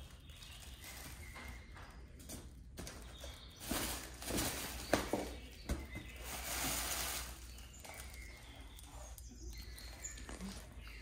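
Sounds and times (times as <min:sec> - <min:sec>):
cats rustling and scuffling: 0:00.0 - 0:11.0.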